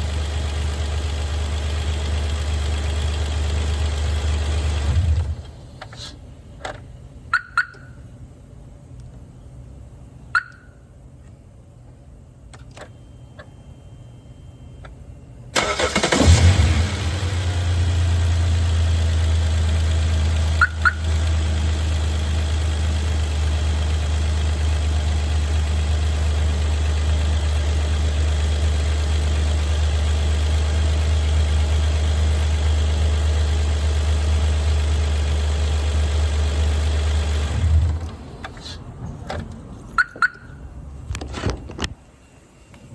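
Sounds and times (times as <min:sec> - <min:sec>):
car engine starting and running: 0:00.0 - 0:07.9, 0:15.5 - 0:42.9.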